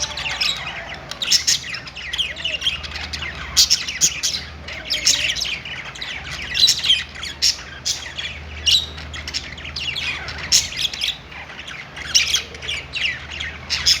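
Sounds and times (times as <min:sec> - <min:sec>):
budgerigars chirping and chattering: 0:00.0 - 0:14.0
faint low hum: 0:00.0 - 0:14.0.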